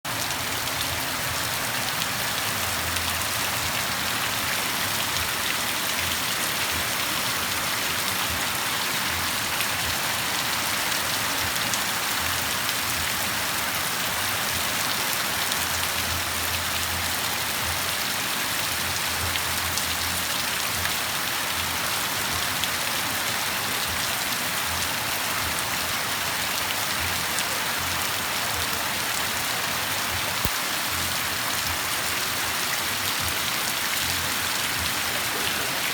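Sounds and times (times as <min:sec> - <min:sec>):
steady rain falling: 0:00.1 - 0:35.9.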